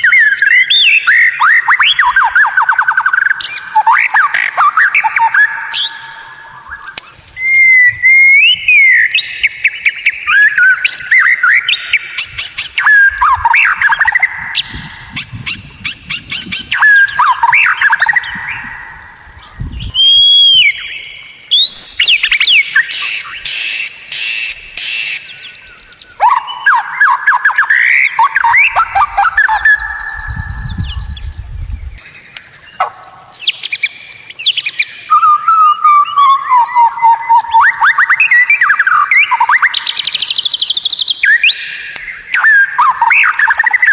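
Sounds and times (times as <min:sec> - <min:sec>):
songbird singing whistles and trills: 0:00.0 - 0:43.9.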